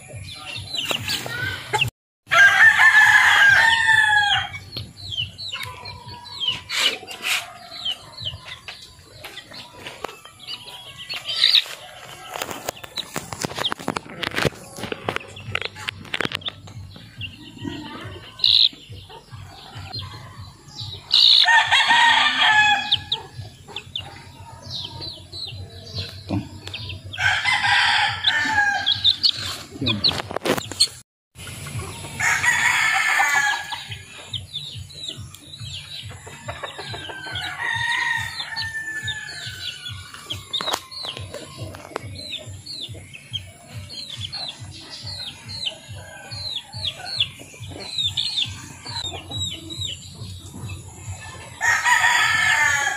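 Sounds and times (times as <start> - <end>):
roosters crowing: 0.0 - 15.5, 17.3 - 30.3, 31.5 - 52.9
chicks peeping and clucking: 0.0 - 52.9.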